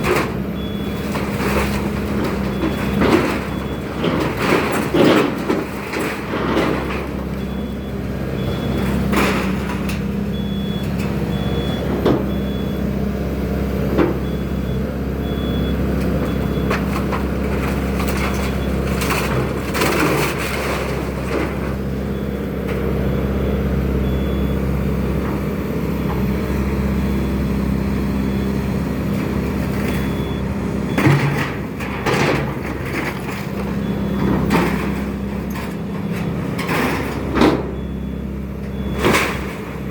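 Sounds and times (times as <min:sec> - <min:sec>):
demolition debris crashing: 0:00.0 - 0:12.6, 0:15.2 - 0:22.9, 0:28.3 - 0:39.9
excavator diesel engine running: 0:00.0 - 0:39.9.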